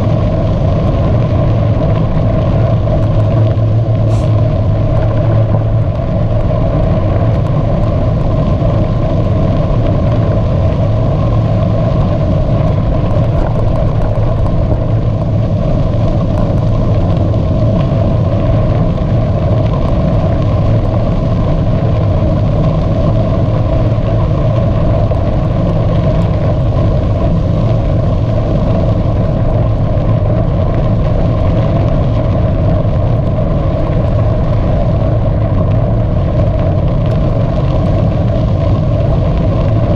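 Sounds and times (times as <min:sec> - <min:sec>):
bicycle ride rumble: 0:00.0 - 0:39.9.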